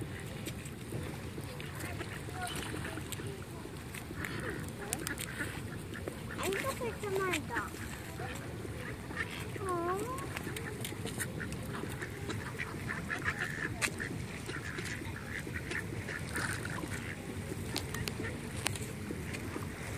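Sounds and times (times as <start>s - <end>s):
ducks quacking: 0.0s - 19.9s.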